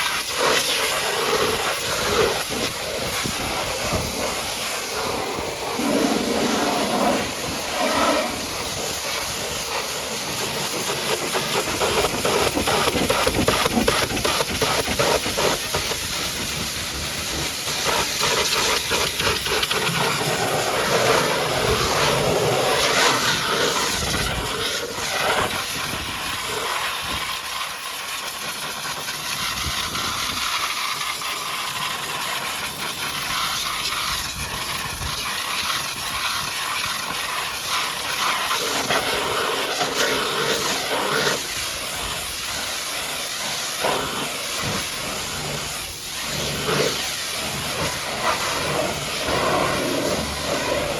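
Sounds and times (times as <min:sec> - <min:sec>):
pressure washer spraying: 0:00.0 - 0:50.9.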